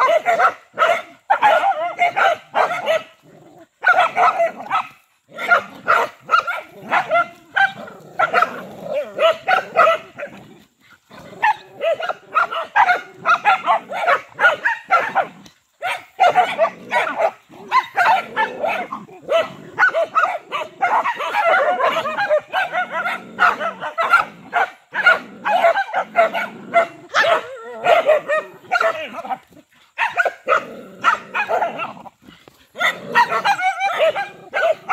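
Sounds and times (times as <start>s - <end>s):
dogs barking: 0.0s - 34.9s.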